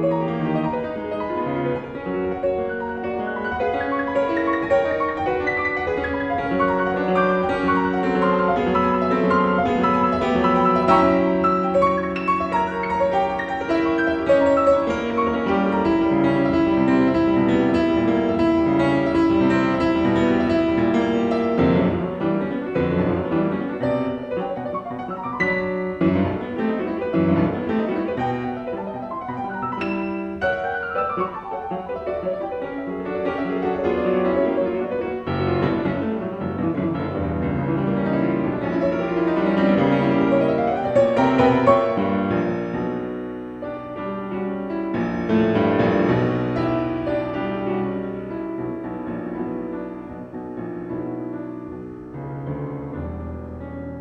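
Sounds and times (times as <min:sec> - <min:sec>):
piano music: 0:00.0 - 0:54.0.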